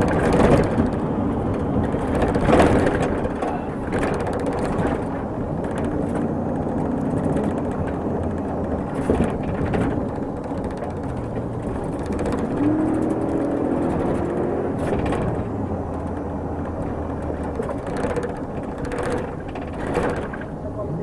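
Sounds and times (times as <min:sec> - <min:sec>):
car engine: 0:00.0 - 0:21.0
road noise: 0:00.0 - 0:21.0.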